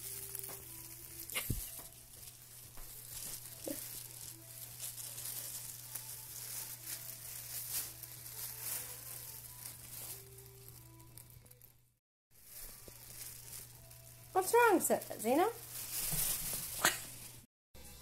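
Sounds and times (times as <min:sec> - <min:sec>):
plastic bag crinkling: 0:00.0 - 0:11.8, 0:12.4 - 0:17.5.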